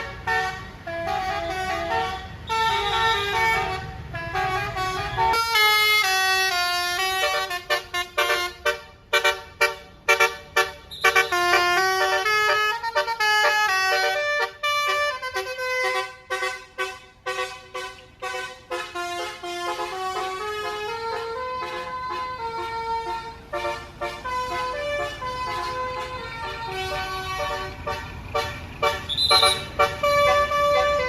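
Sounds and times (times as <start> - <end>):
musical air horn tune: 0.0 - 31.0.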